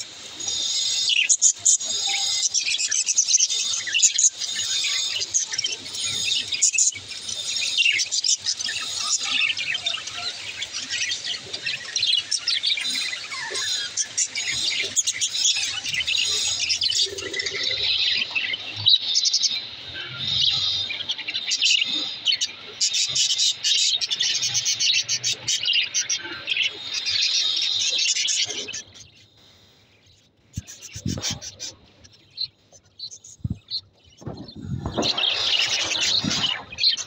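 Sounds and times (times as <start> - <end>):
budgerigars chirping: 0.1 - 29.6, 30.5 - 37.0.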